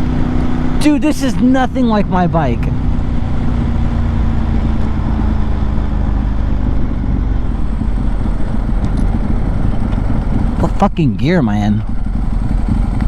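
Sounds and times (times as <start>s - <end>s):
motorcycle engine rumbling: 0.0s - 13.0s
steady engine tone: 0.0s - 13.0s.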